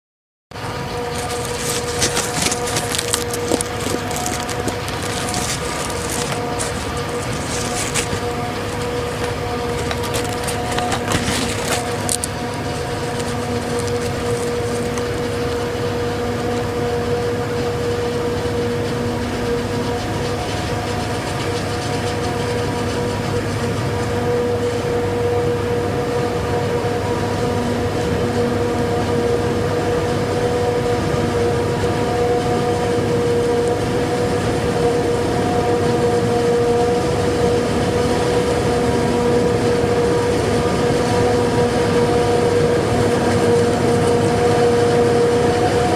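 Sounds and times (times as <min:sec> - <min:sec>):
diesel engine noise: 0:00.5 - 0:45.9
forage harvester high whine: 0:00.5 - 0:45.9.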